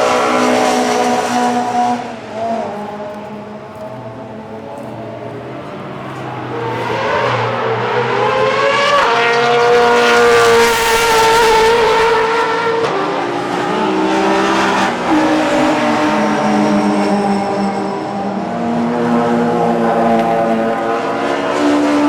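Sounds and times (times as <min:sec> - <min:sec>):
race cars passing at speed: 0:00.0 - 0:22.0.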